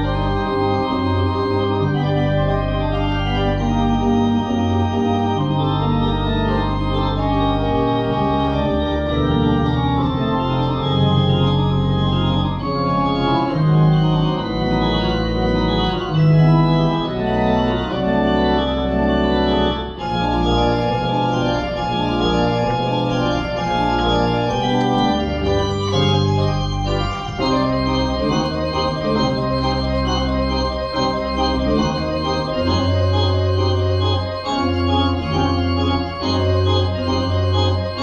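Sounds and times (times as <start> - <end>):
pipe organ playing: 0.0 - 38.0.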